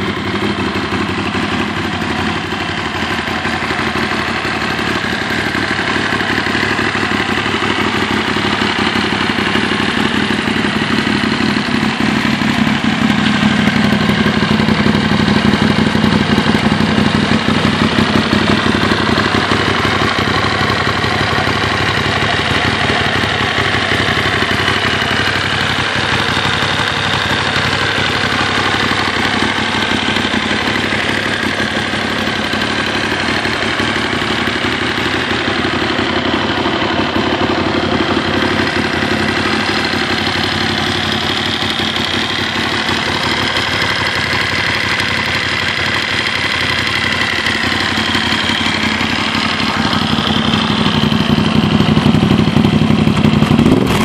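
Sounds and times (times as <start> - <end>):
v-twin engine idling: 0.0 - 54.0.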